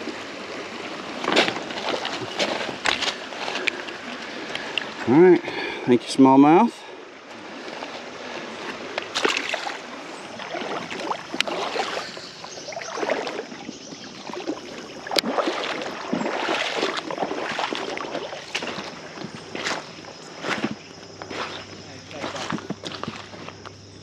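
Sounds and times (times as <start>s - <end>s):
water splashing in creek: 0.0s - 24.0s.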